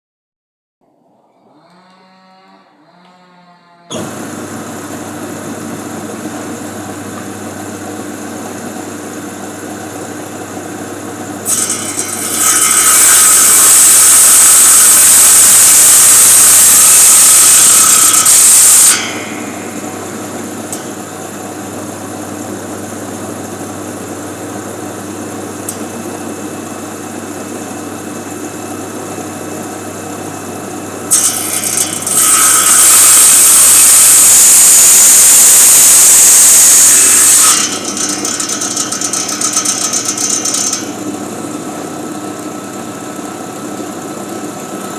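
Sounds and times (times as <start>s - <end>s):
saw cutting through wood: 1.5s - 29.3s, 29.9s - 43.6s
power saw running: 3.9s - 44.9s.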